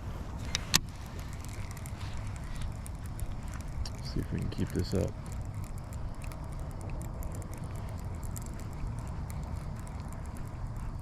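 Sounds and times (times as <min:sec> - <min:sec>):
steady low rumble: 0:00.0 - 0:11.0
rain pattering on water: 0:00.9 - 0:11.0.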